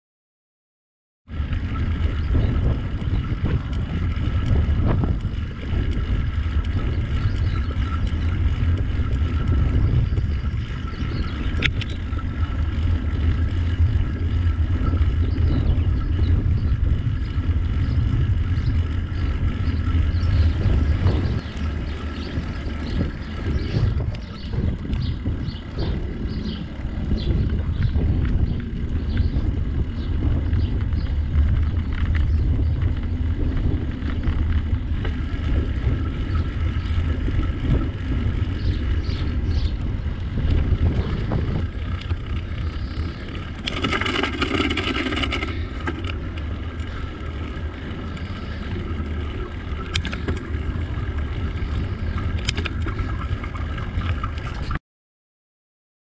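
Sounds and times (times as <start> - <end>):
bicycle tyre noise: 1.3 - 54.8
wind buffeting microphone: 1.3 - 54.8
small rattles and clicks: 1.5 - 54.8.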